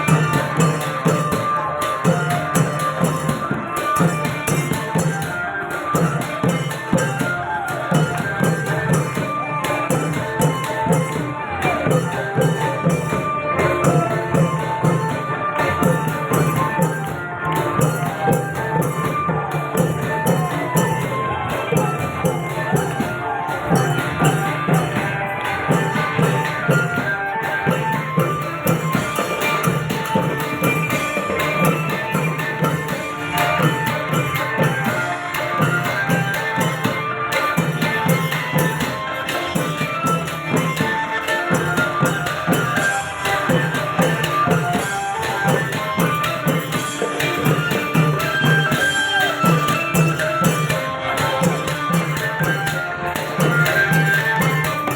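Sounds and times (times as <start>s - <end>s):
held melodic notes: 0.0s - 54.9s
long drums beating: 0.0s - 54.9s
small cymbals clashing: 0.0s - 54.9s.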